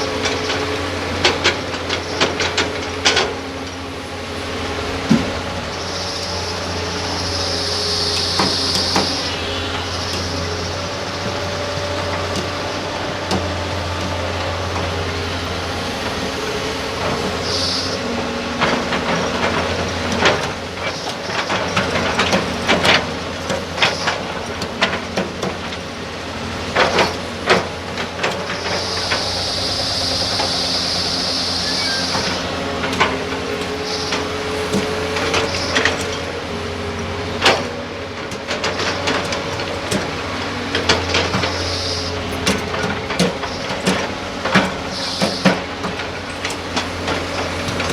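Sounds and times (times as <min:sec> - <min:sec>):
excavator diesel engine: 0:00.0 - 0:47.9
hydraulics running: 0:00.0 - 0:47.9.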